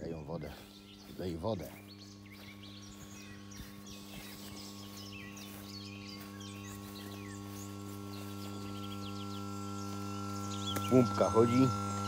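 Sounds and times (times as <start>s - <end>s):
electric pump humming: 0.0s - 12.0s.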